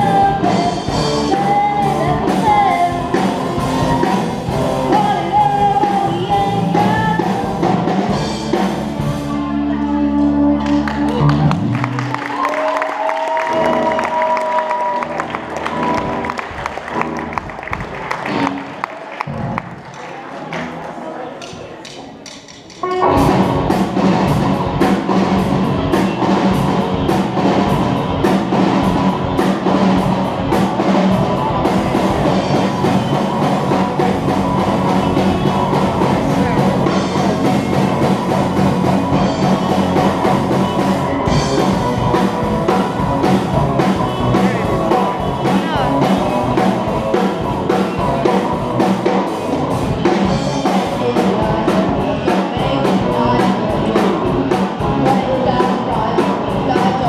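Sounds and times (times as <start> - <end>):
rock music with drums: 0.0 - 12.4, 22.3 - 57.0.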